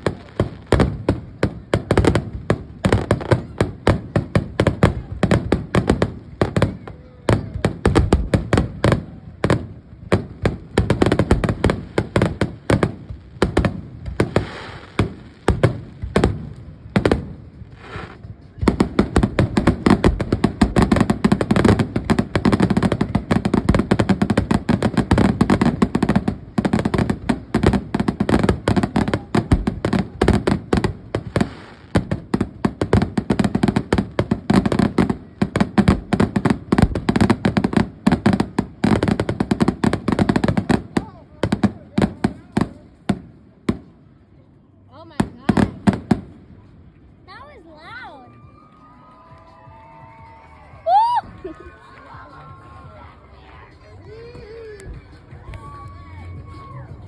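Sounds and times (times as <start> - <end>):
fireworks bangs and pops: 0.0 - 44.1, 45.0 - 57.0.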